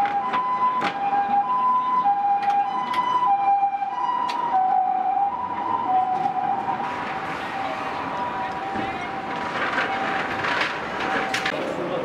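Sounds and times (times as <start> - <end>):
two-tone emergency siren: 0.0 - 11.5.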